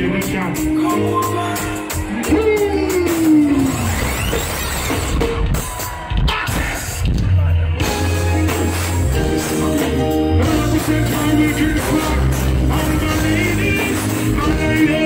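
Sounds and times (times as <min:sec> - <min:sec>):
band playing slow r and b: 0:00.0 - 0:15.0.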